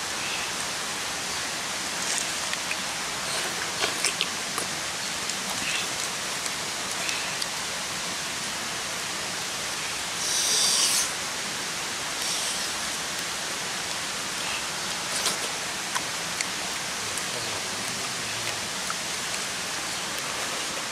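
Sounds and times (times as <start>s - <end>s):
forest background hiss: 0.0s - 20.9s.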